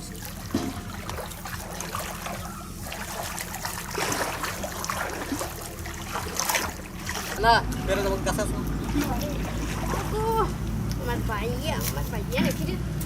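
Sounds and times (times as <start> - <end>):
low steady hum: 0.0 - 13.0
water flowing and splashing: 0.0 - 13.0.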